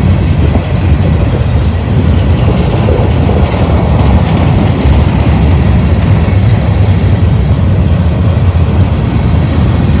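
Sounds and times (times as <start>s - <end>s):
freight train wheels rumbling on rail: 0.0s - 10.0s.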